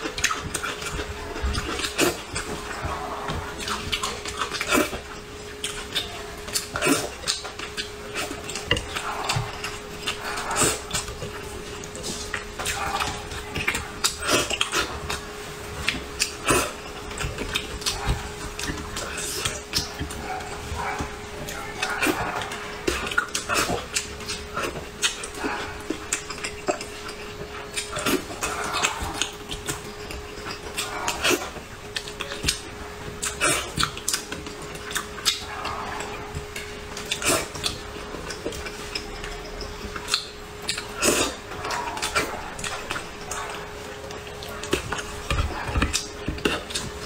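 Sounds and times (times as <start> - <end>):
chewing and slurping: 0.0 - 47.0
faint steady hum: 0.0 - 47.0.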